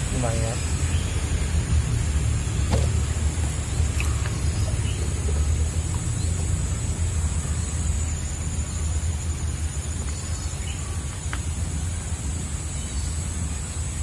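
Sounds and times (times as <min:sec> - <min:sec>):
insects droning: 0:00.0 - 0:14.0
steady low rumble: 0:00.0 - 0:14.0.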